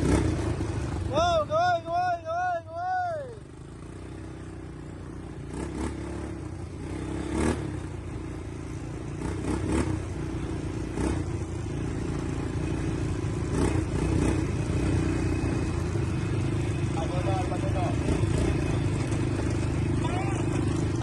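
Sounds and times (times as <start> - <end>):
atv engine droning: 0.0 - 21.0.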